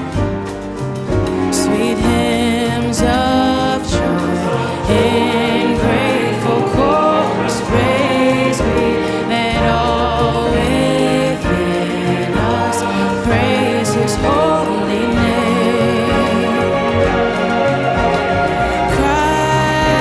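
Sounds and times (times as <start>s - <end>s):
choir singing: 0.0s - 20.0s
instrumental accompaniment: 0.0s - 20.0s.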